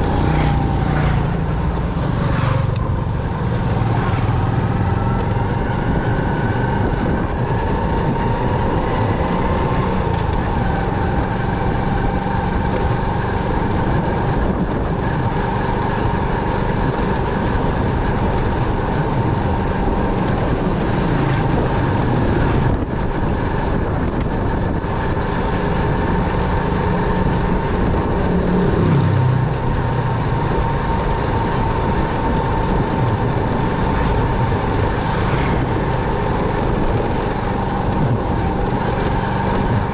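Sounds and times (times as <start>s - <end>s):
motorcycle engine running: 0.0s - 39.9s
road noise: 0.0s - 39.9s
steady whine: 0.0s - 39.9s.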